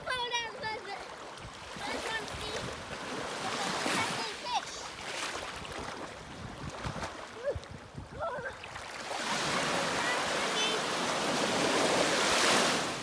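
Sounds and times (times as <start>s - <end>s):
waves washing in: 0.0s - 13.0s.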